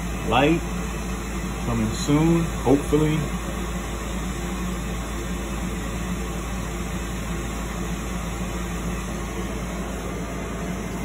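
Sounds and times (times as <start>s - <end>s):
furnace fan motor humming: 0.0s - 11.0s.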